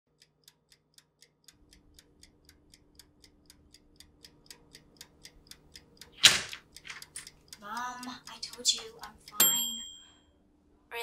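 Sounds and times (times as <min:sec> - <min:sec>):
clock-like ticking: 0:00.1 - 0:10.2.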